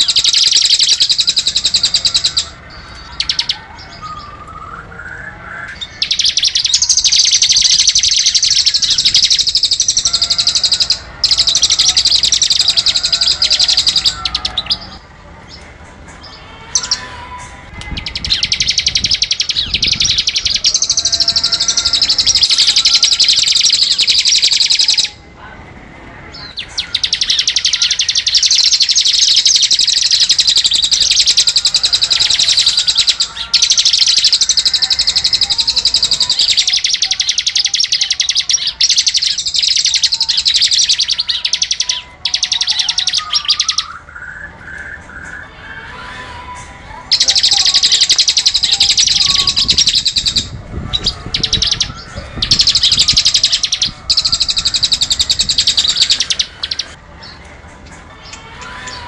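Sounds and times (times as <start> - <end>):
bird rapid drill-like trill: 0.0 - 3.6, 5.8 - 15.0, 18.0 - 25.2, 26.5 - 44.1, 47.1 - 57.0.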